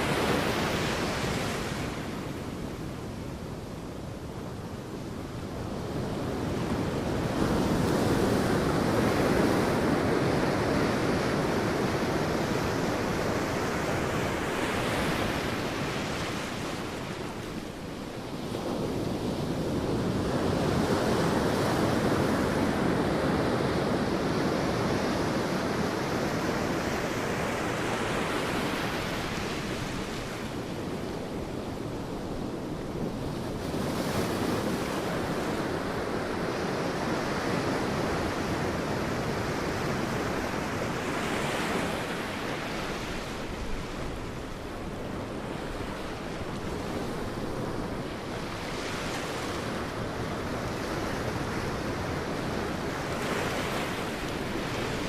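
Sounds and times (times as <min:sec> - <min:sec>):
sea waves breaking on beach: 0:05.6 - 0:55.0.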